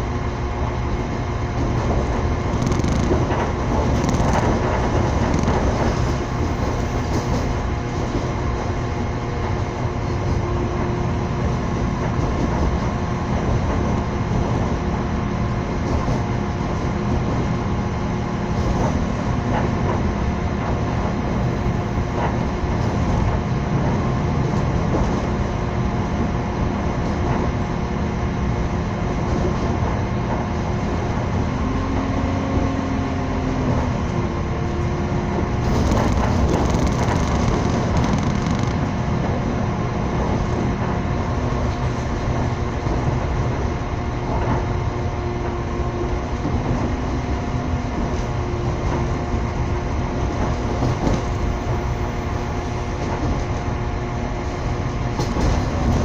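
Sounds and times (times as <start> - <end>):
wheels rumbling on rails: 0.0 - 56.0.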